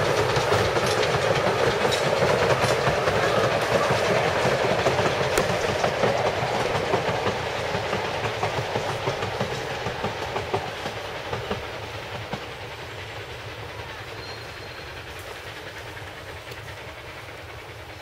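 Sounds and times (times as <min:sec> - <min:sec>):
miniature train wheel clatter: 0:00.0 - 0:18.0.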